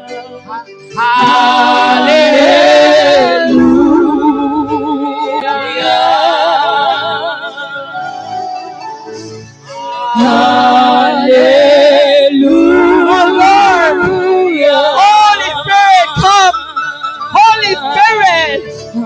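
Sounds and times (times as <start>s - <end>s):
backing music: 0.0s - 19.0s
person singing with vibrato: 0.0s - 19.0s.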